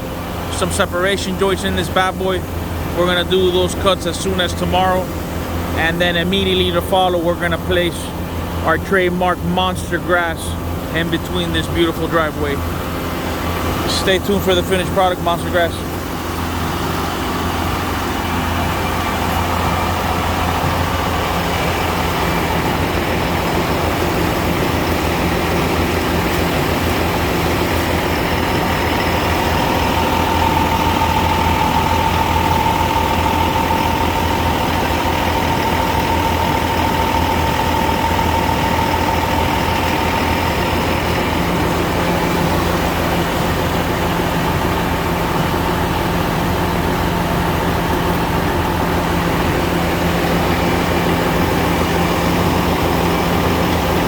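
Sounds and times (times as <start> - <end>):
engine running steadily: 0.0 - 54.0
high whine: 0.0 - 54.0.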